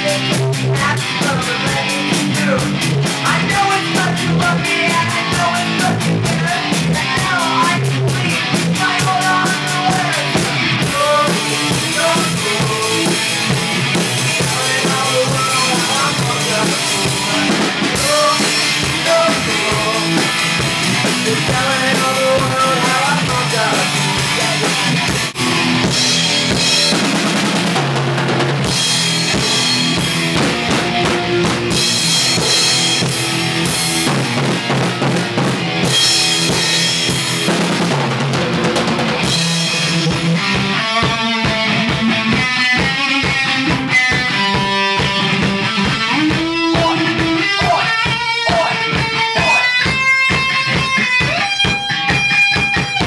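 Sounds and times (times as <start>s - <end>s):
drum kit: 0.0s - 53.0s
electric guitar: 0.0s - 53.0s
rock band playing: 0.0s - 53.0s.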